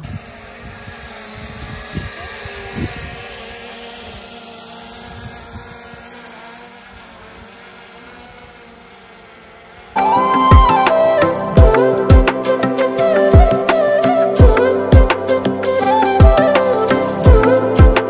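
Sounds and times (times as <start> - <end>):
drone propellers buzzing: 0.0 - 18.0.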